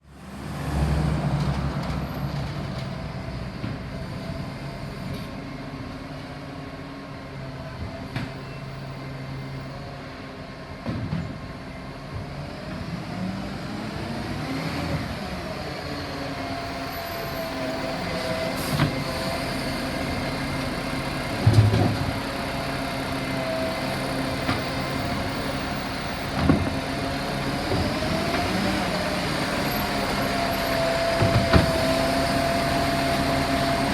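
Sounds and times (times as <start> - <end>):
garbage truck engine and hydraulics: 0.2 - 33.9.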